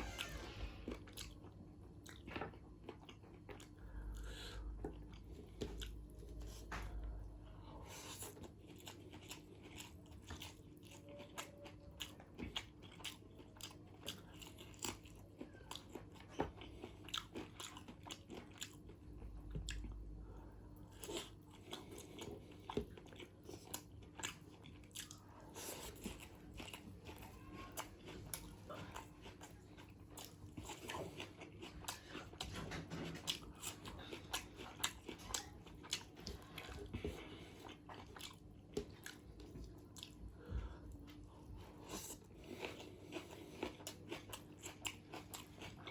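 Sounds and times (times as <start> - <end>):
close chewing and crunching: 0.0 - 45.9
faint steady hum: 0.0 - 45.9.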